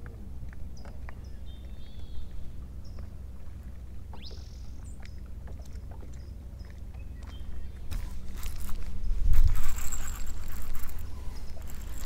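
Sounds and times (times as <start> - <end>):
boat engine low rumble: 0.0 - 12.0.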